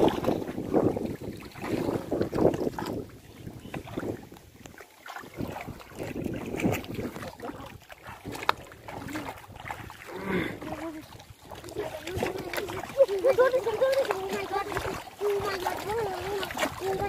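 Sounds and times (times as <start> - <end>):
feet wading through water: 0.0 - 17.0
wind buffeting microphone: 0.0 - 17.0.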